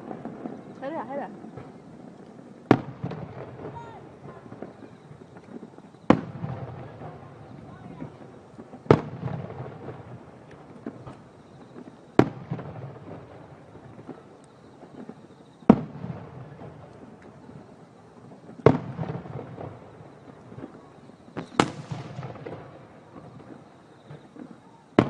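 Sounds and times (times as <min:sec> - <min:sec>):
fireworks bangs with crackle: 0:00.0 - 0:25.0.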